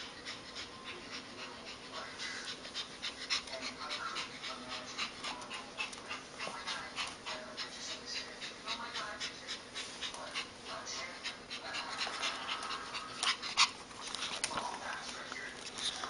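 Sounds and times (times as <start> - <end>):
puppy panting rapidly: 0.0 - 16.0.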